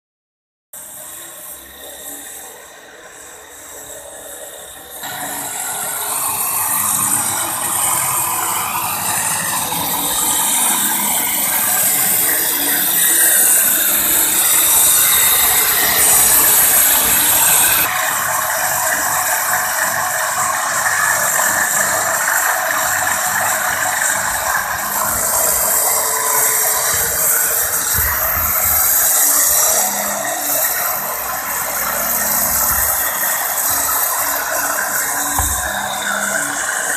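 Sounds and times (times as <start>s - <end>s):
angle grinder grinding concrete: 0.8s - 36.9s.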